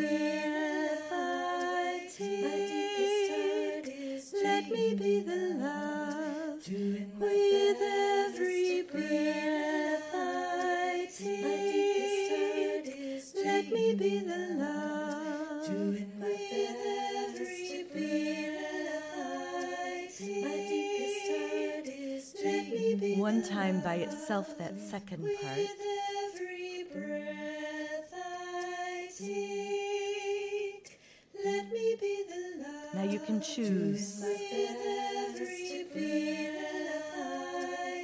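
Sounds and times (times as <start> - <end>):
looped vocal harmonies: 0.0 - 38.0
woman singing a cappella: 0.0 - 38.0.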